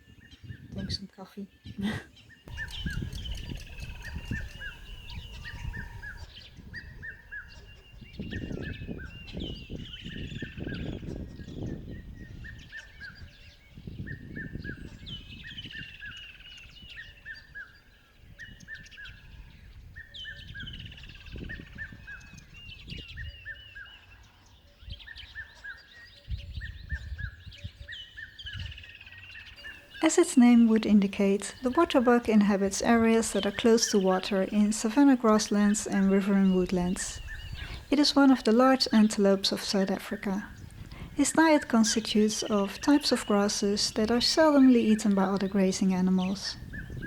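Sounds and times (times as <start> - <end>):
bird chirping repeated notes: 0.0 - 17.8, 24.9 - 47.0.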